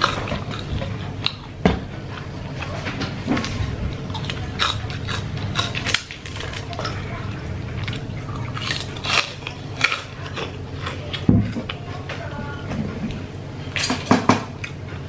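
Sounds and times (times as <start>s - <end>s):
crunchy cracker chewing: 0.0s - 12.1s.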